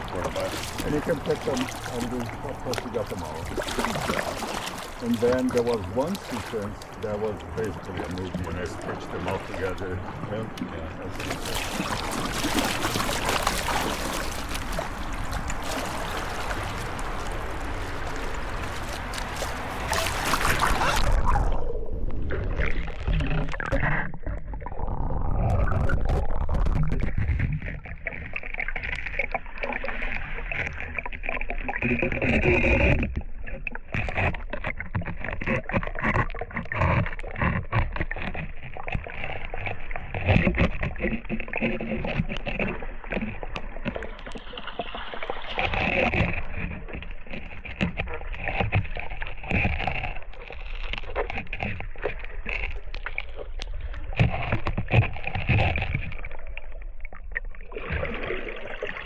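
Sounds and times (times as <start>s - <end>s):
river water splashing: 0.0s - 59.0s.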